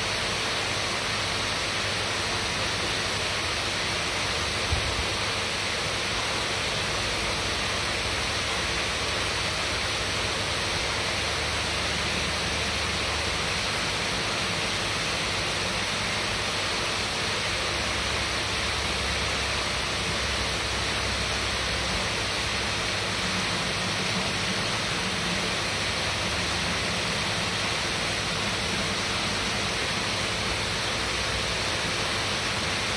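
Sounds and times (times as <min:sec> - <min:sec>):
faint steady hum: 0:00.0 - 0:32.9
running water rushing: 0:00.0 - 0:32.9.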